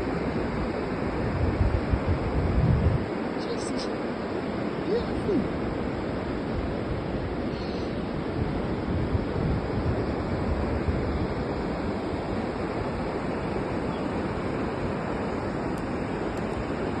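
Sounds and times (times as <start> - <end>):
wind rumbling on microphone: 0.0 - 3.9, 4.5 - 17.0
surf washing onto beach: 0.0 - 17.0.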